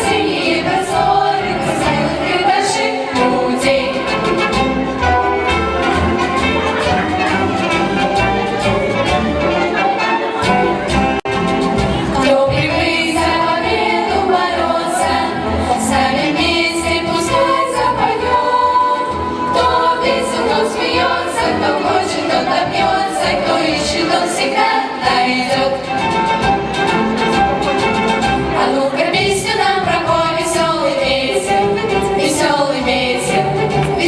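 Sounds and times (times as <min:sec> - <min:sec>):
choir singing: 0:00.0 - 0:11.0, 0:11.8 - 0:34.0
instrumental accompaniment: 0:00.0 - 0:34.0.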